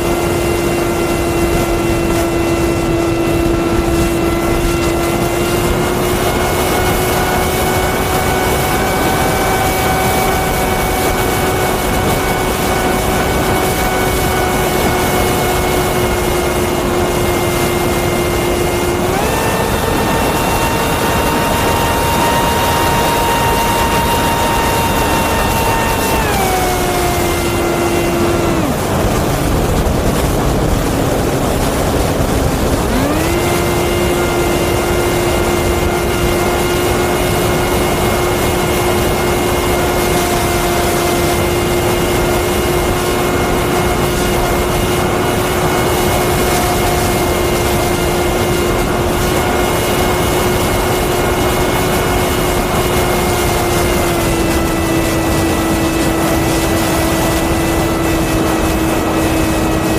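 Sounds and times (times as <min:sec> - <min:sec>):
electric motor and propeller whining: 0:00.0 - 0:59.9
wind rushing: 0:00.0 - 0:59.9.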